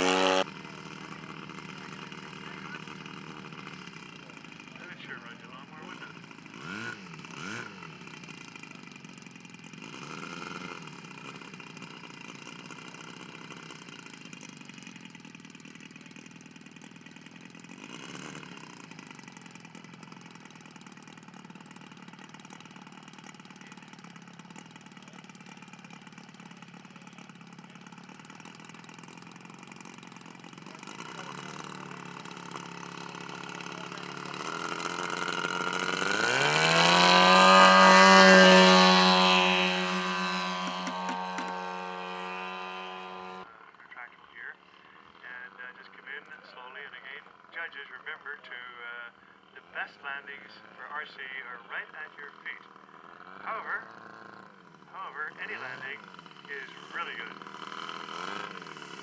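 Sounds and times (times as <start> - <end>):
model airplane engine: 0.0 - 59.0.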